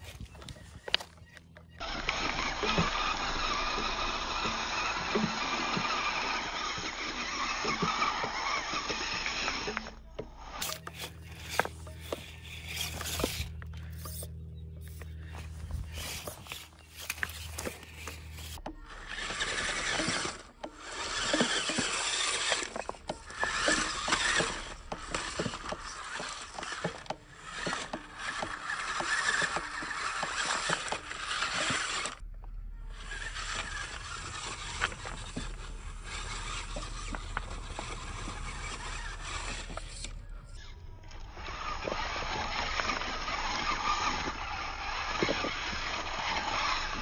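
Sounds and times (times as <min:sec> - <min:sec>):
tyres knocking against rocks: 0:00.0 - 0:40.4
toy car motor whirring: 0:00.0 - 0:47.0.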